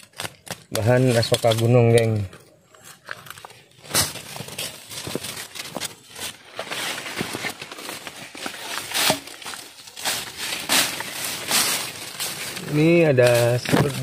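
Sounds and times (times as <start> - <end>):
brush and leaves rustling: 0.0 - 14.0
footsteps in undergrowth: 0.2 - 14.0.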